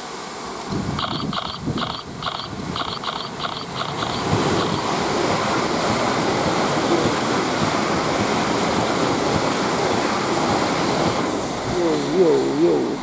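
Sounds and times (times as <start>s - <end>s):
train passing at speed: 0.0s - 13.0s
wheels rushing on rails: 0.0s - 13.0s.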